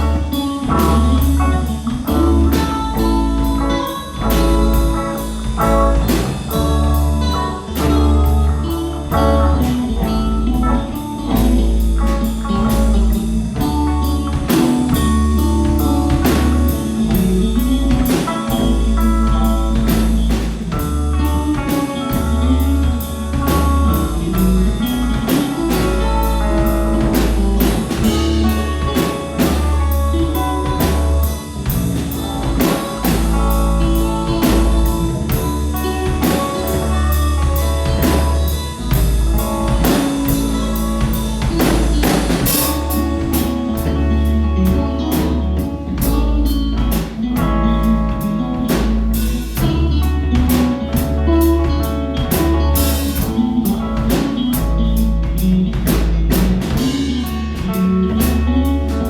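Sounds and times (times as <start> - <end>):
band playing a song: 0.0 - 59.0
low bass line: 0.0 - 59.0.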